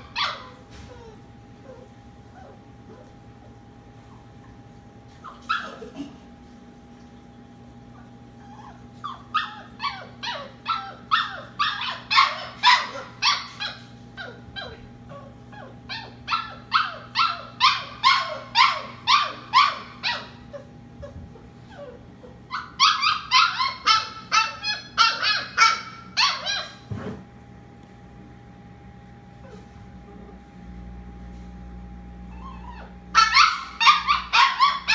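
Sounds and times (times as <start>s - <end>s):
puppy yelping whines: 0.0s - 6.0s, 7.9s - 26.9s, 29.4s - 29.7s, 32.2s - 34.9s.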